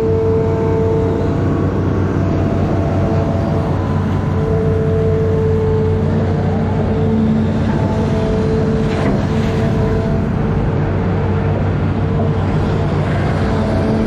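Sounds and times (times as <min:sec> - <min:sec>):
diesel engine running: 0:00.0 - 0:14.0
whining tones: 0:00.0 - 0:14.0.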